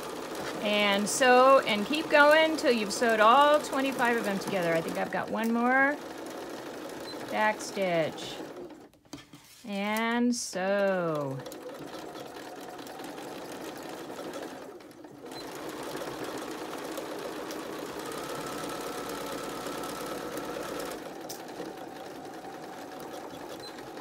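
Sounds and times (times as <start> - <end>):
electric sewing machine stitching: 0.0 - 9.0, 10.6 - 24.0.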